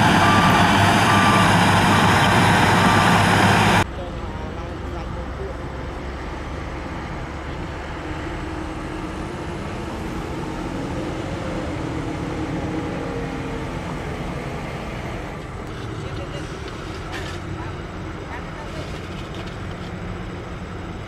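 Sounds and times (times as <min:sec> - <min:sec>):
diesel earthmoving equipment running: 0:00.0 - 0:21.0.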